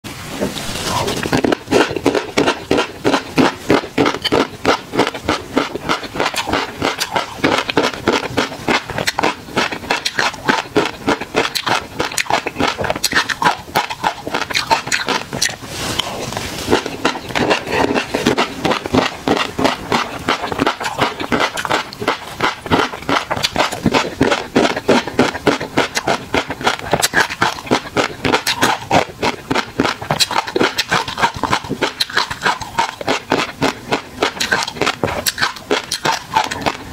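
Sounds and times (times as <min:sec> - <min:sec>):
wet mouth sounds: 0:00.1 - 0:36.9
fish roe popping while chewing: 0:00.5 - 0:36.9.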